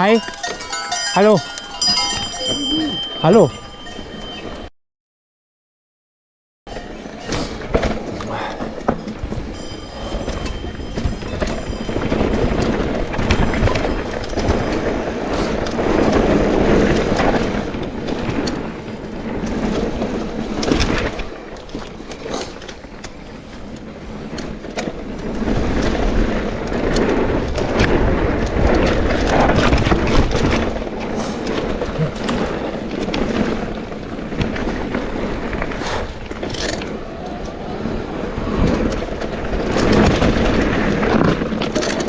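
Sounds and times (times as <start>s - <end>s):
bike chain and frame rattling: 0.0s - 4.7s, 6.7s - 42.0s
bike tyres skidding on dirt: 6.8s - 42.0s.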